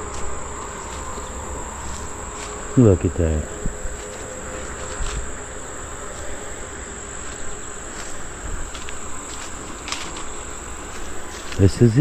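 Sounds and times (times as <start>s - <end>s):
faint low rustling: 0.0s - 12.0s
insects trilling: 0.0s - 12.0s.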